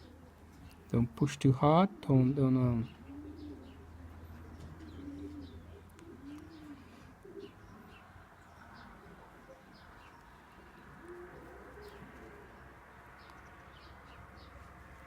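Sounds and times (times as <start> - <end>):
pigeons cooing: 0.0 - 14.6
small birds chirping: 0.0 - 15.0.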